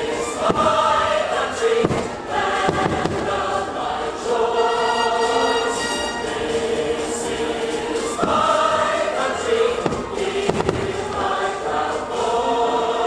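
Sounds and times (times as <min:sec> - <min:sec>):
firework bangs: 0:00.0 - 0:04.0, 0:05.0 - 0:12.2
choir singing with orchestra: 0:00.0 - 0:13.0.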